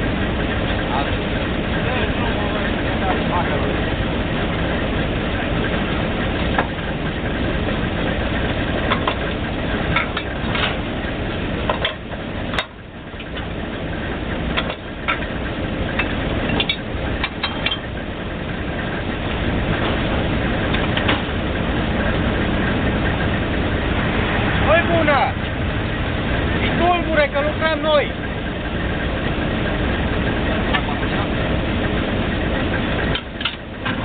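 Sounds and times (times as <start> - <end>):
drilling rig engine: 0.0 - 34.0.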